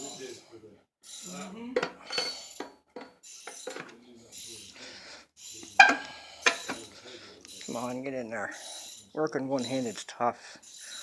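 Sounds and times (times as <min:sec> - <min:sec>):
metal tools clinking and scraping: 0:00.0 - 0:00.5, 0:01.1 - 0:11.0.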